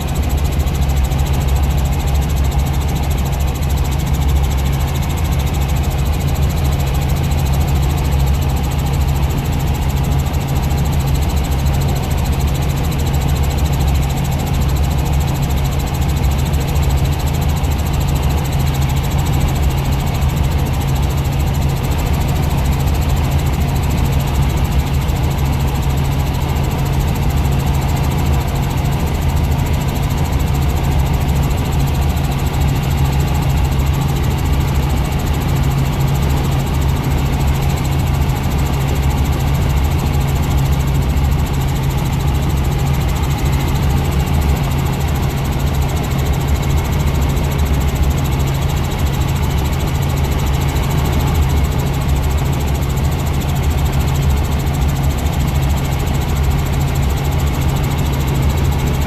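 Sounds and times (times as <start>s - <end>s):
helicopter rotor and engine hum: 0.0s - 59.0s.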